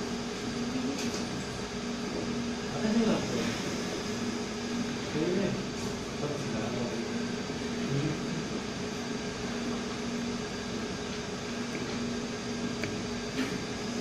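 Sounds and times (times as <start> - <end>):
low mechanical hum with hiss: 0.0 - 14.0.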